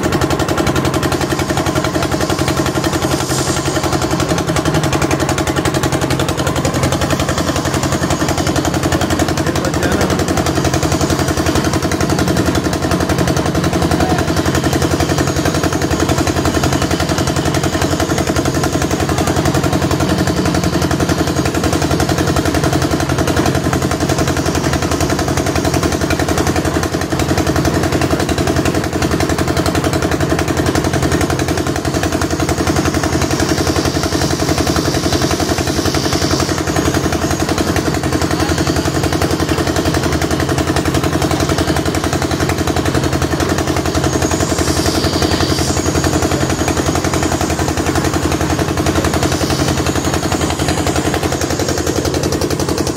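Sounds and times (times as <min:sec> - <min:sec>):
concrete mixer engine chugging: 0:00.0 - 0:52.9.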